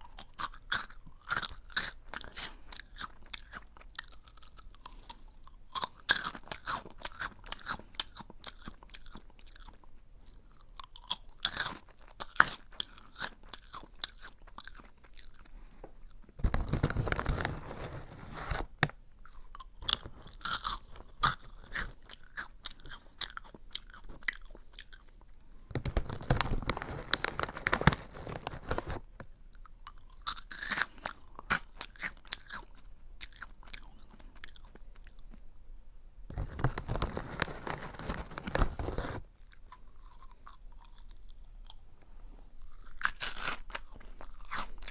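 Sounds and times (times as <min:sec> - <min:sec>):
chewing crunchy snack: 0:00.0 - 0:35.5, 0:36.3 - 0:44.9.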